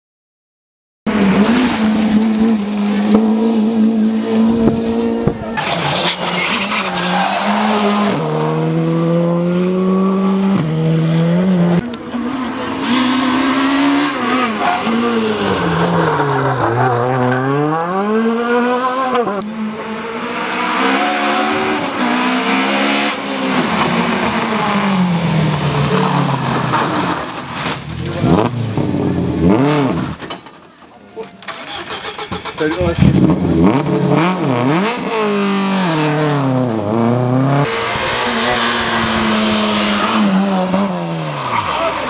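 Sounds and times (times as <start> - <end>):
rally car engine accelerating: 1.1 - 30.2, 31.7 - 42.0.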